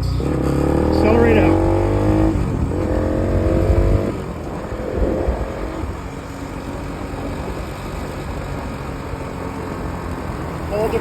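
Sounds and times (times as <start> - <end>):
motorcycle engine braking: 0.0 - 11.0.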